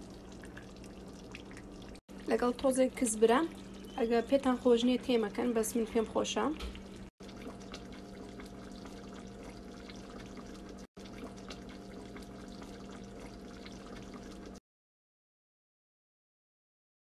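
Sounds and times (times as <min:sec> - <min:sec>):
curry bubbling in a pan: 0:00.0 - 0:14.6.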